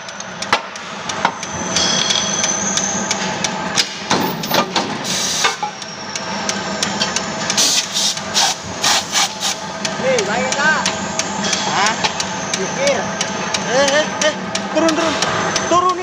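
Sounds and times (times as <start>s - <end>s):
punch press humming: 0.0s - 16.0s.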